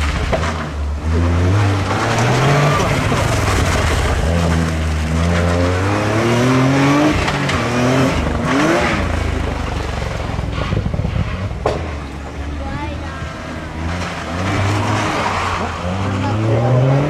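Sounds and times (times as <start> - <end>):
car engine revving hard: 0.0 - 12.3, 13.1 - 17.0
tyres sliding on asphalt: 0.0 - 17.0.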